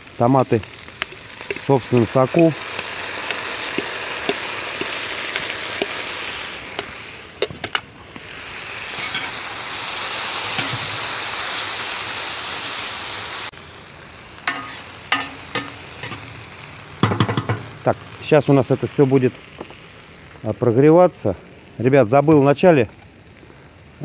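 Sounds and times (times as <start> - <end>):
vegetables sizzling in skillet: 0.0 - 24.0.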